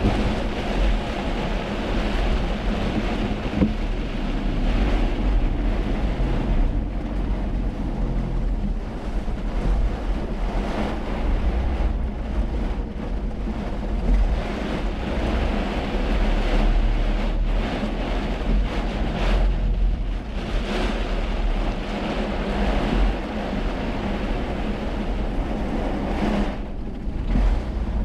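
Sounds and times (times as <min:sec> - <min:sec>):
car low rumble: 0:00.0 - 0:28.0
heavy rain: 0:00.0 - 0:28.0
tyres on wet road: 0:00.0 - 0:28.0.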